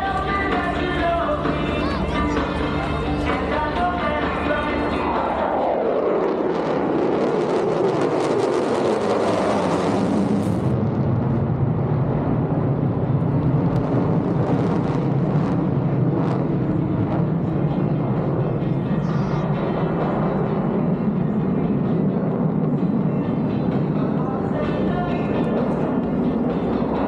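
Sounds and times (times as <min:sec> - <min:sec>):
fighter jet flying past: 0:01.4 - 0:27.0.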